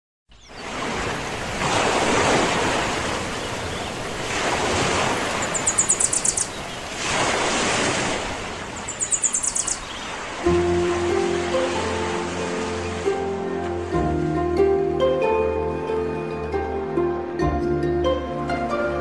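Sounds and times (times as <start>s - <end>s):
sea waves washing: 0.4s - 17.3s.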